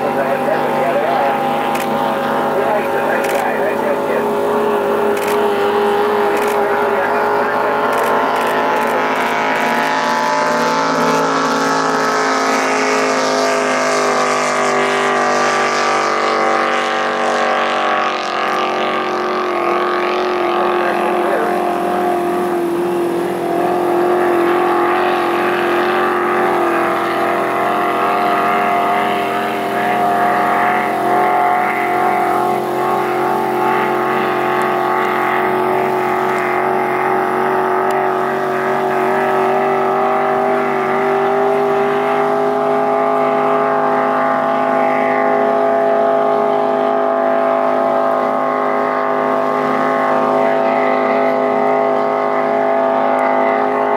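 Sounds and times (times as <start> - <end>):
racing boat engine drone: 0.0 - 53.9.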